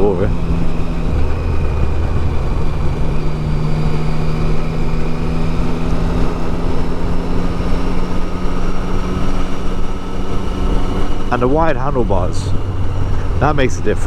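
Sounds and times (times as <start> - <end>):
motorcycle engine cruising: 0.0 - 14.0
wind on microphone: 0.0 - 14.0.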